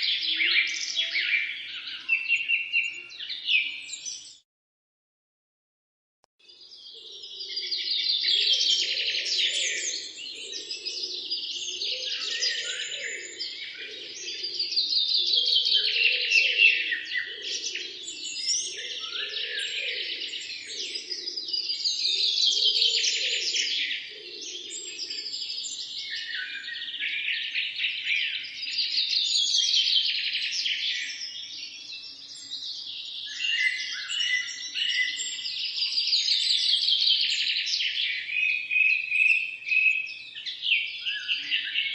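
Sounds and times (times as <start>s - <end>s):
songbirds chirping and trilling: 0.0s - 4.4s, 6.4s - 41.9s.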